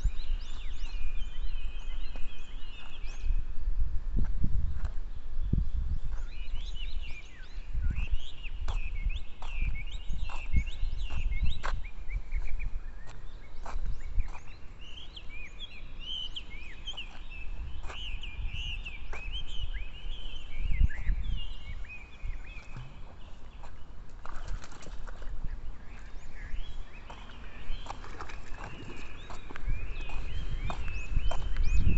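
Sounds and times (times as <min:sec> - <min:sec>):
many small birds chirping: 0:00.0 - 0:03.6, 0:04.7 - 0:31.9.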